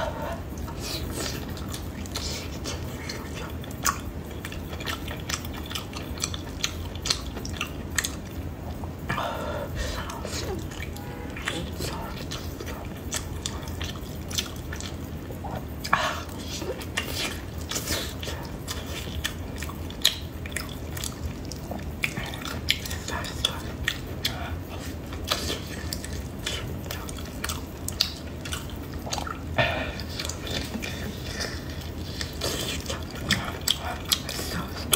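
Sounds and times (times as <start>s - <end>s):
steady low hum: 0.0s - 34.9s
lip and tongue clicks: 0.1s - 9.2s, 9.8s - 34.9s
wet chewing and mouth smacking: 0.1s - 9.2s, 9.8s - 34.9s.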